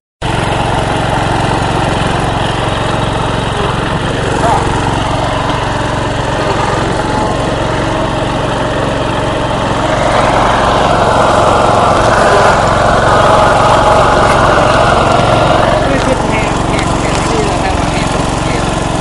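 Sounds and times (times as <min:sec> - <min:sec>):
riding lawnmower engine running: 0:00.2 - 0:19.0.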